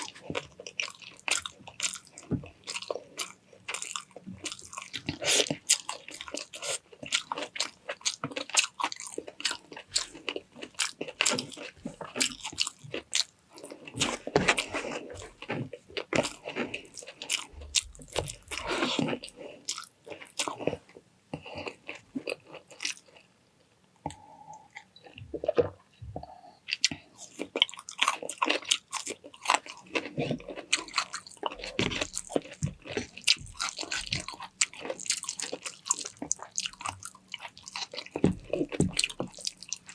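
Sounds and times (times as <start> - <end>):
person chewing crunchy food: 0.0 - 23.3, 24.0 - 39.9.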